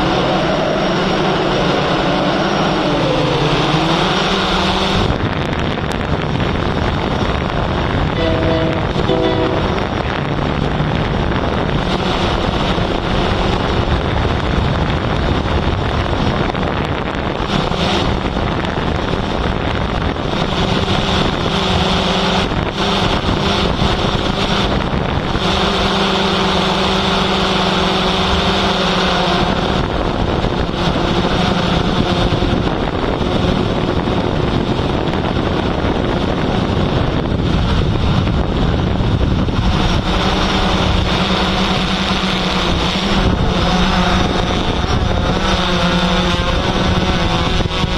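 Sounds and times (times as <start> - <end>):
motor drone: 0.0 - 47.9
wind rushing over microphone: 0.0 - 47.9.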